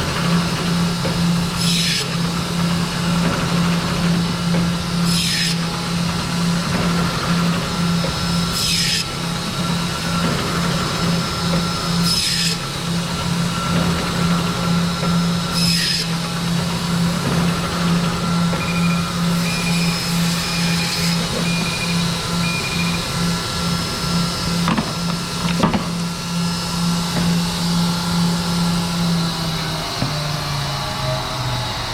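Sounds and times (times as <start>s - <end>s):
band saw motor hum: 0.0s - 31.9s.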